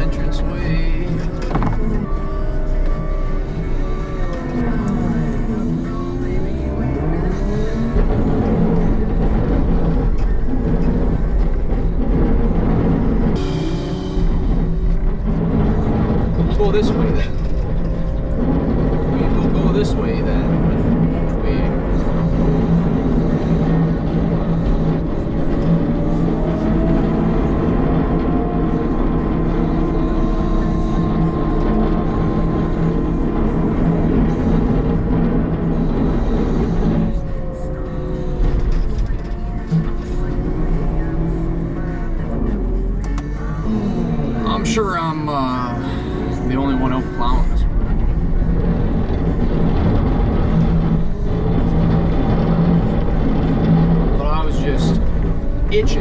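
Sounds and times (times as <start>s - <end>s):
diesel loader engine running: 0.0s - 56.0s
high-pitched whine: 0.0s - 56.0s.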